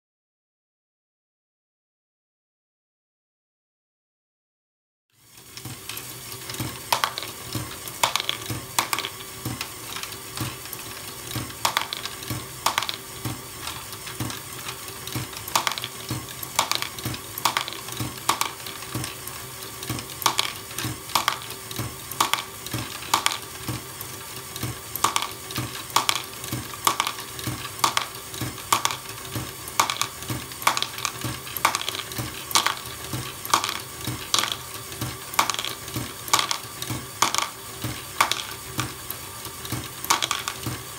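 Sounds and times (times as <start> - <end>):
electric motor and gears humming: 5.2 - 40.9
plastic balls clacking: 6.4 - 23.9, 24.7 - 39.0, 39.7 - 40.9.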